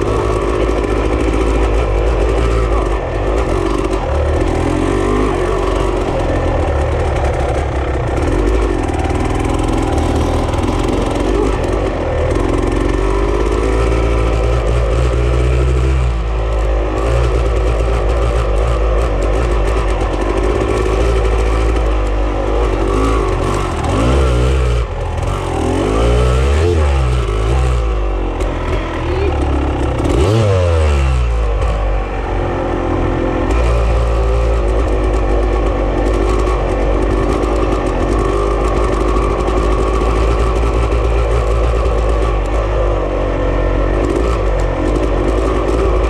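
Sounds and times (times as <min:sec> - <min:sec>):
off-road vehicle engine revving: 0:00.0 - 0:46.0.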